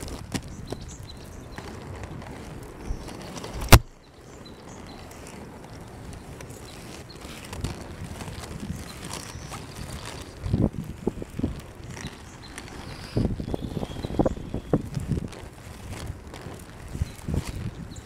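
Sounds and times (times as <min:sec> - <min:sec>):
skate wheels rolling on asphalt: 0:00.0 - 0:18.0.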